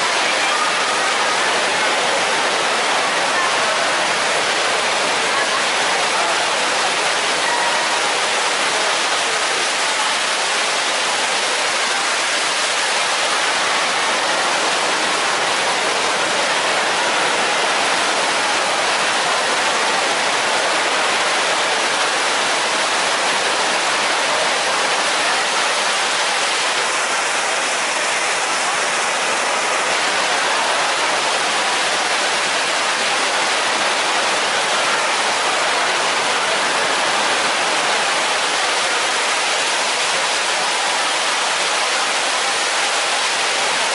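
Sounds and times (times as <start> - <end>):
waterfall crashing into pool: 0.0 - 43.9.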